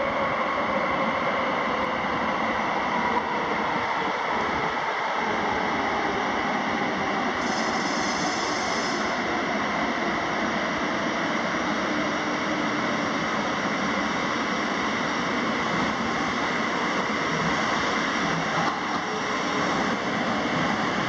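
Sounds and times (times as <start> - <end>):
train rushing through tunnel: 0.0 - 21.0.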